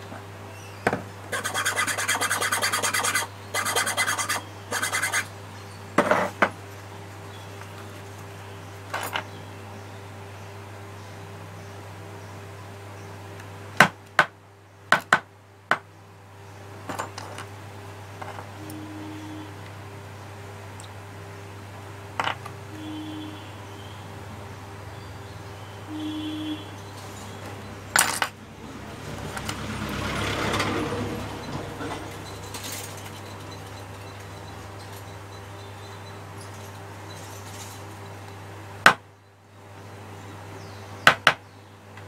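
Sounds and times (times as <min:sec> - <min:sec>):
low electrical hum: 0:00.0 - 0:30.0, 0:30.7 - 0:42.0.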